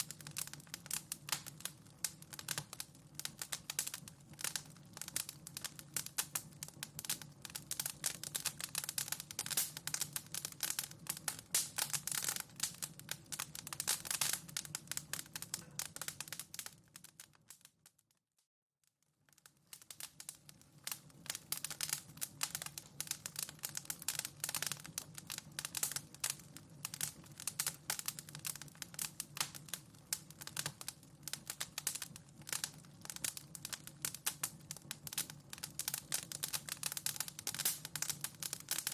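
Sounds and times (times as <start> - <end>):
wood fire crackling: 0.0 - 17.9, 19.2 - 38.9.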